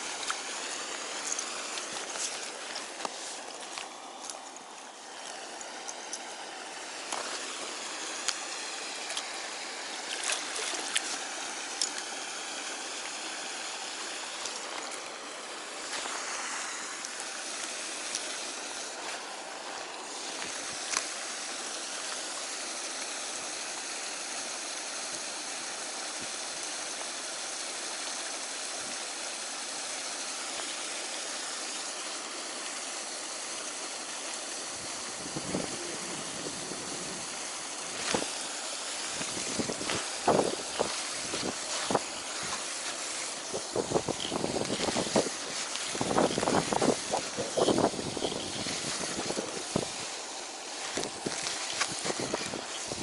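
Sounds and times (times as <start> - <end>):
running water rushing: 0.0 - 53.0.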